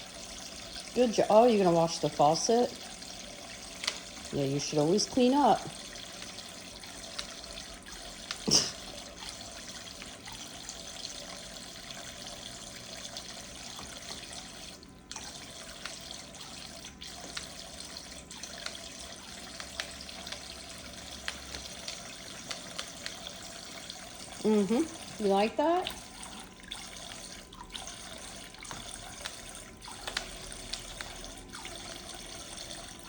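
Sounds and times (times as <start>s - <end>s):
faucet running water: 0.0s - 33.0s
water splashes and clicks: 0.7s - 24.4s, 25.0s - 33.0s.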